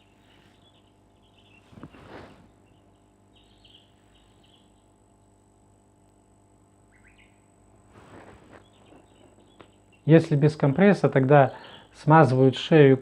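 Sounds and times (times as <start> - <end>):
faint birds chirping: 0.0 - 13.0
low steady hum: 0.0 - 13.0.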